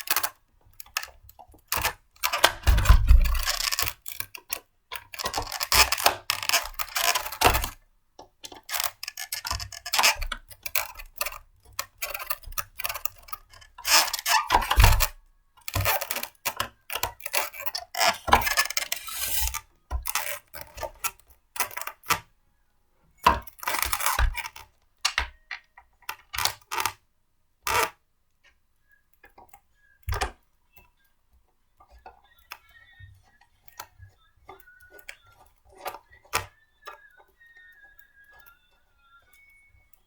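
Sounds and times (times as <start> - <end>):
plastic parts clicking and rattling: 0.0 - 22.3, 23.2 - 27.0, 27.6 - 28.6, 29.2 - 40.0.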